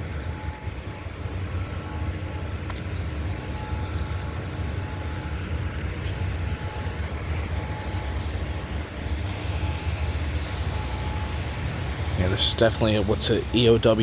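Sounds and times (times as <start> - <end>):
distant rotating warning siren: 0.0 - 14.0.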